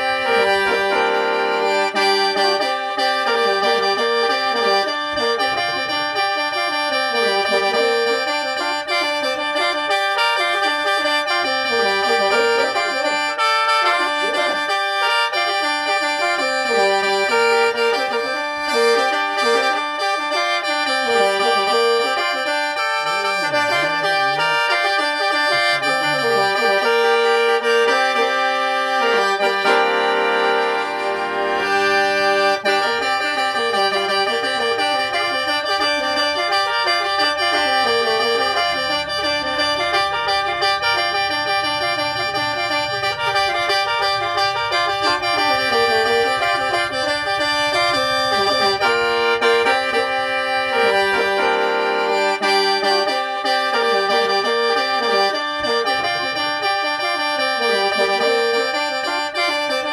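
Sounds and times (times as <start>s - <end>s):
free-reed mouth organ melody: 0.0s - 59.9s.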